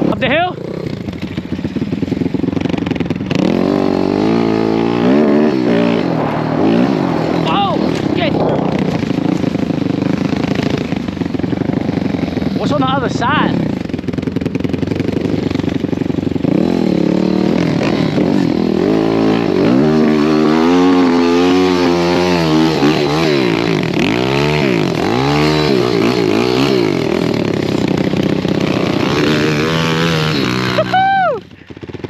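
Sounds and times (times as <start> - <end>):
motorbike engine revving: 0.0 - 32.0.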